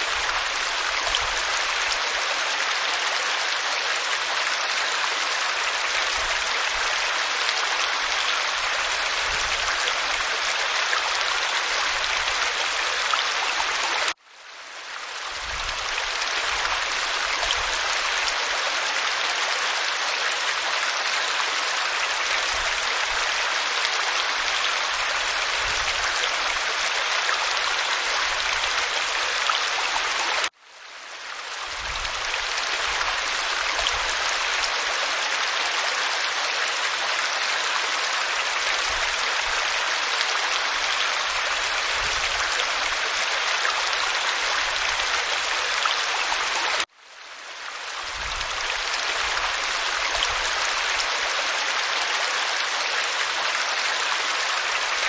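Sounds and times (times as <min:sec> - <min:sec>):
waterfall pouring over rock: 0:00.0 - 0:14.2, 0:14.8 - 0:30.6, 0:31.2 - 0:46.9, 0:47.5 - 0:55.0.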